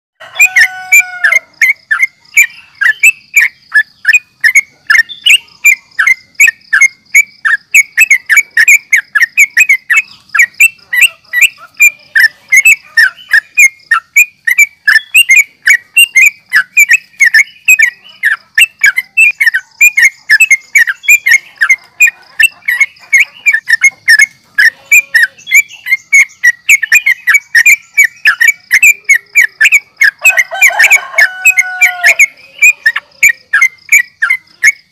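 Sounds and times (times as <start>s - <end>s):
bird singing rapid chattering notes: 0.4s - 34.9s.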